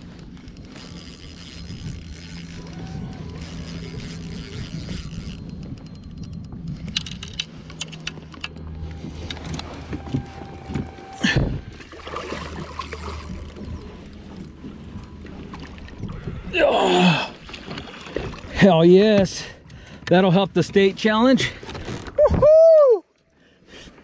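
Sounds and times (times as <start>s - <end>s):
boat low hum: 0.0s - 24.0s.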